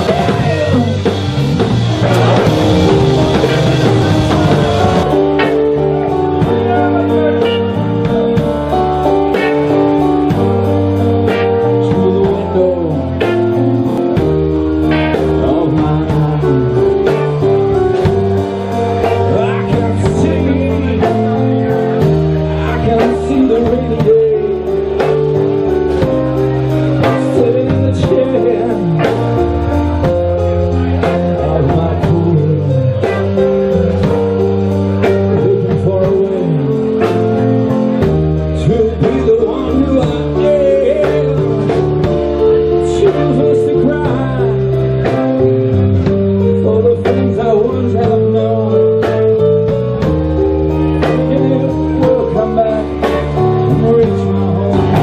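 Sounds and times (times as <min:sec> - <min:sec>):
blues band playing live: 0:00.0 - 0:55.0
electric guitar bending notes: 0:00.0 - 0:55.0.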